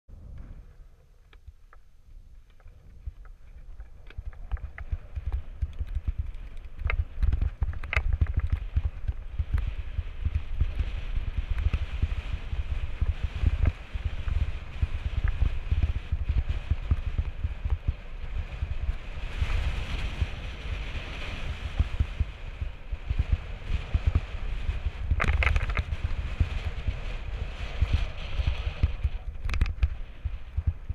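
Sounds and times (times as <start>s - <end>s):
wind buffeting microphone: 0.1s - 30.9s
bike tyres rattling over stones: 1.4s - 30.9s.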